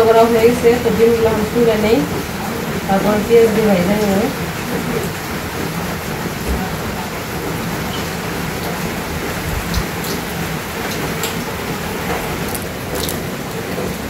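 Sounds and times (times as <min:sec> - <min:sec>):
heavy rain on metal roof: 0:00.0 - 0:14.0.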